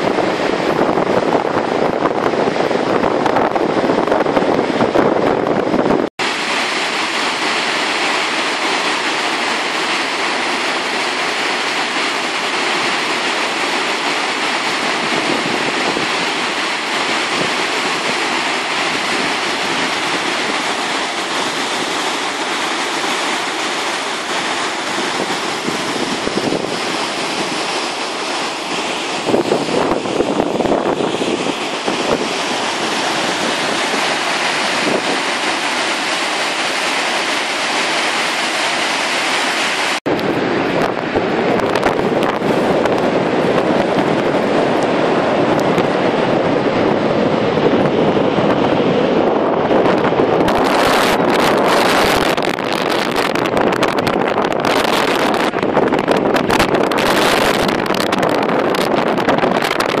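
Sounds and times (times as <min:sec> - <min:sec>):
wind buffeting microphone: 0:00.0 - 0:38.8, 0:39.7 - 1:00.0
waterfall roaring: 0:00.0 - 1:00.0.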